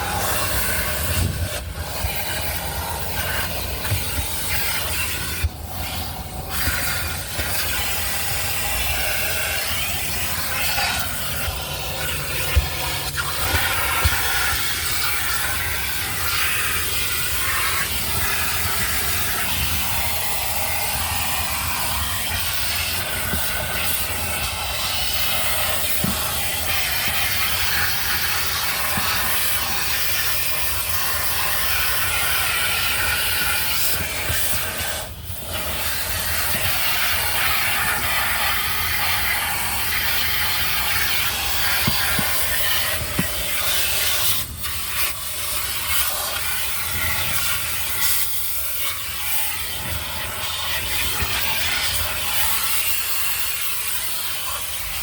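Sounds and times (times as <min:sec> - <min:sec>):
spray hissing against car body: 0:00.0 - 0:54.9.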